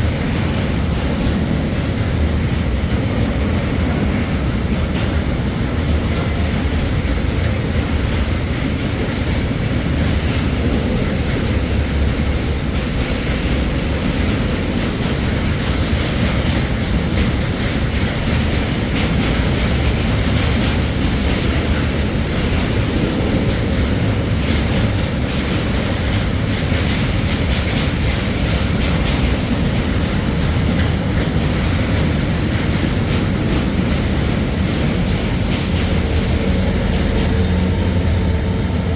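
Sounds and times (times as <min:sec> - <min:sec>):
train running on track: 0:00.0 - 0:38.9.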